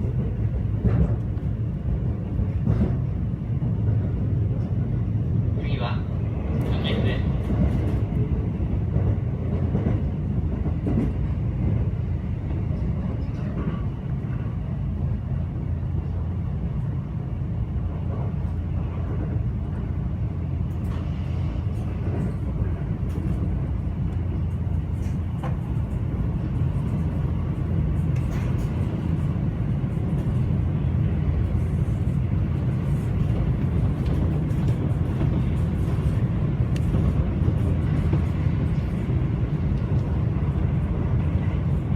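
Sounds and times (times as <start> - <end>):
train rumble: 0.0 - 41.9.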